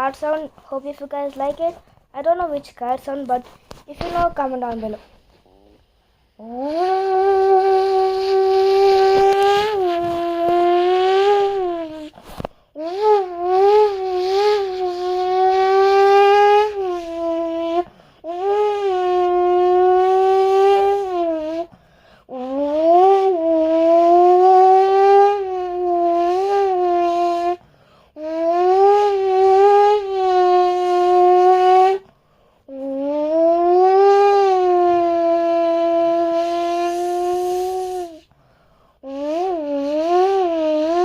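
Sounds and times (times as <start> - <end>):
person imitating car engine: 5.4 - 12.1, 12.8 - 32.0, 32.7 - 38.3, 39.0 - 41.0.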